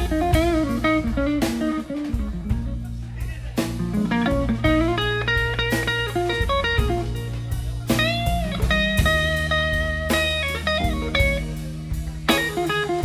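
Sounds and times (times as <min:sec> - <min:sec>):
lead guitar solo: 0:00.0 - 0:02.9, 0:03.6 - 0:13.0
bass: 0:00.0 - 0:13.0
drum kit: 0:00.0 - 0:13.0.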